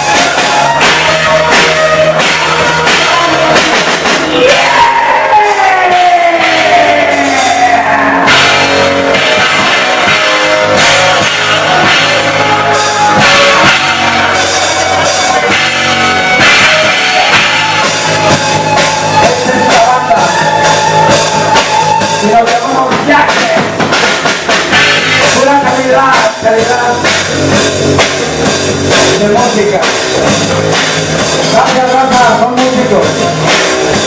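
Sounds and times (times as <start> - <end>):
instrumental rock music: 0.0 - 34.0
melodic guitar line: 0.0 - 34.0.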